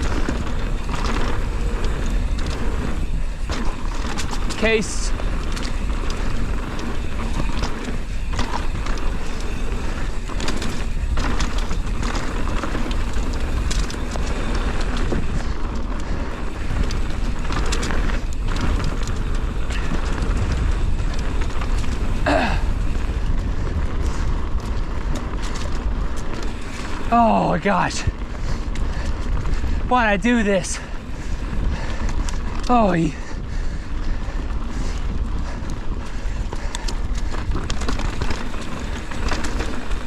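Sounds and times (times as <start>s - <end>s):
bike rattling over bumps: 0.0s - 40.0s
bike tyres rolling over dirt: 0.0s - 40.0s.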